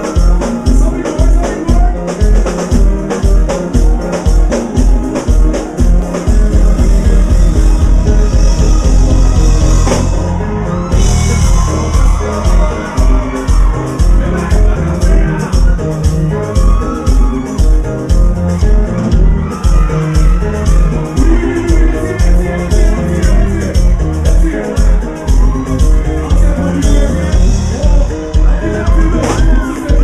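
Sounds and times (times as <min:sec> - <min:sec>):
person singing: 0:00.0 - 0:18.0, 0:18.7 - 0:30.0
live band playing: 0:00.0 - 0:30.0
pounding bass drum: 0:00.0 - 0:30.0.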